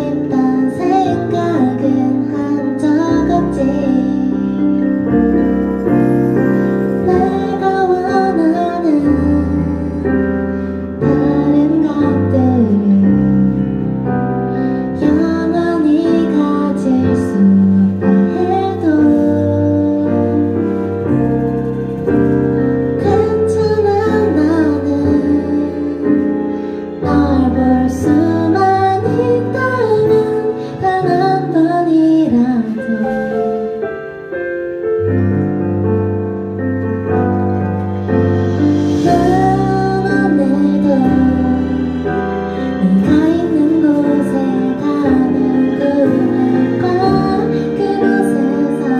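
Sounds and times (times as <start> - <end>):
woman singing: 0.0 - 5.1, 6.8 - 14.1, 14.8 - 21.0, 23.0 - 33.8, 38.7 - 48.9
keyboard chords: 0.0 - 48.9.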